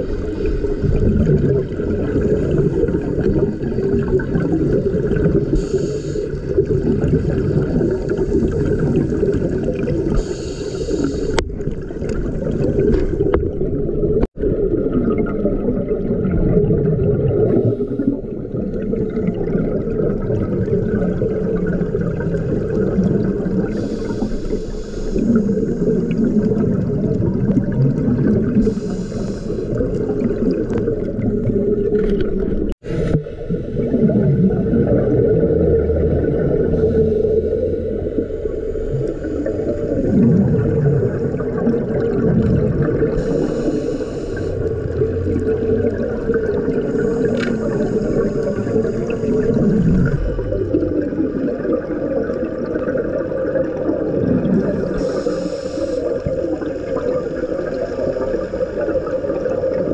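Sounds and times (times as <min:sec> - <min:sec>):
muffled underwater rumble: 0:00.0 - 0:59.9
scuba exhaust bubbles: 0:00.0 - 0:59.9.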